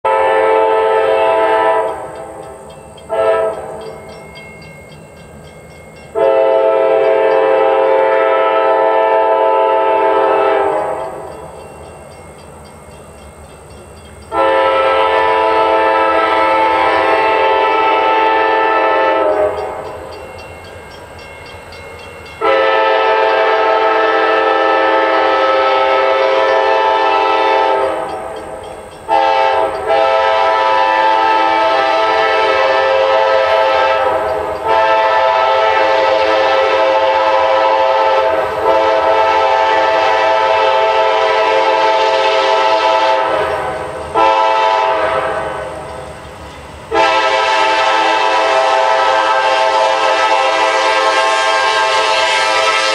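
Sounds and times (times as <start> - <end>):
locomotive air horn blasts: 0.0 - 2.3, 3.1 - 3.9, 6.1 - 11.4, 14.3 - 20.0, 22.4 - 45.8, 46.9 - 52.9.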